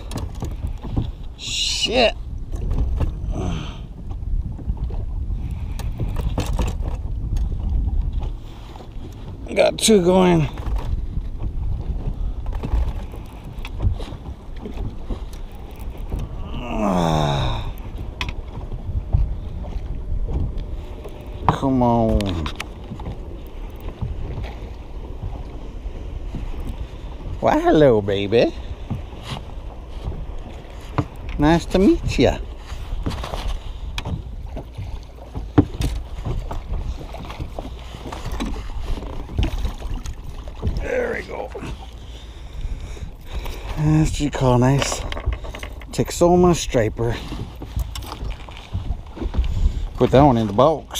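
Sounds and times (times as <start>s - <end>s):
water lapping around boat: 0.0s - 50.9s
wind buffeting microphone: 0.0s - 50.9s.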